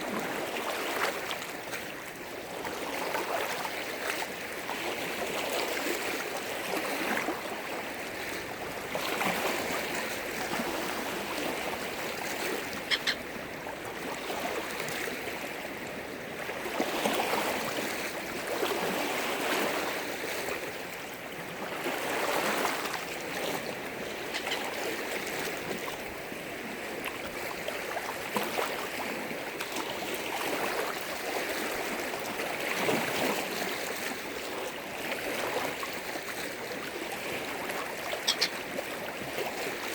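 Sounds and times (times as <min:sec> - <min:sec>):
waves crashing and splashing: 0:00.0 - 0:39.9.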